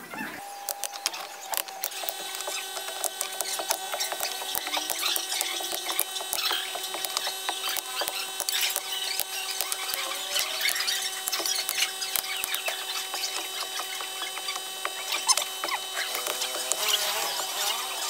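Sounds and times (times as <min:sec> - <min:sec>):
faint steady whine: 0:00.0 - 0:18.0
mechanical clicking and rattling: 0:00.6 - 0:17.6.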